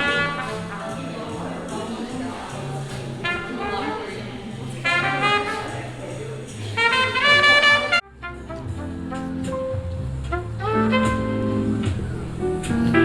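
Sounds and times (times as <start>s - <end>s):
jazz music with brass: 0.0s - 13.0s.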